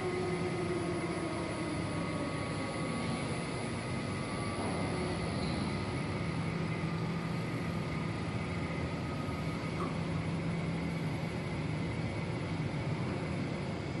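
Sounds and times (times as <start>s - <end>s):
faint high machine whine: 0.0s - 14.0s
machine humming: 0.0s - 14.0s.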